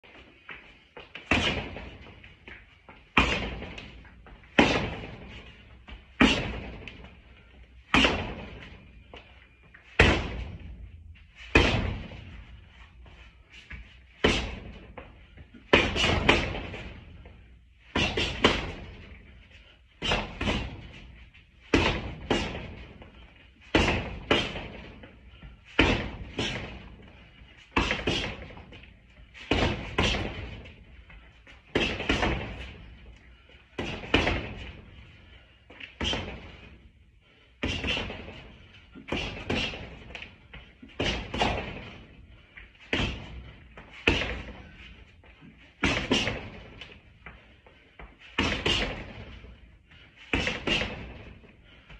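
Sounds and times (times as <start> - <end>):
boxing gloves hitting pads: 0.1 - 19.4, 20.0 - 35.0, 35.7 - 36.8, 37.6 - 47.4, 48.0 - 51.9.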